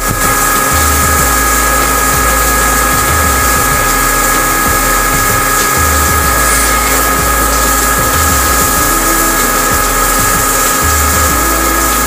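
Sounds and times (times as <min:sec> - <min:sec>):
lathe cutting metal with whine: 0:00.0 - 0:12.0.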